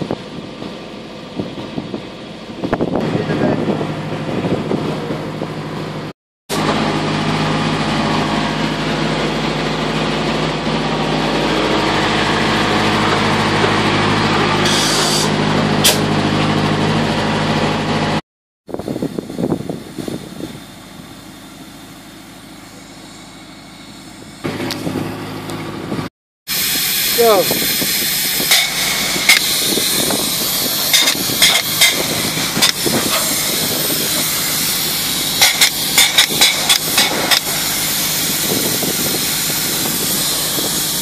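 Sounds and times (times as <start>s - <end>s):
engine droning: 0.0s - 41.0s.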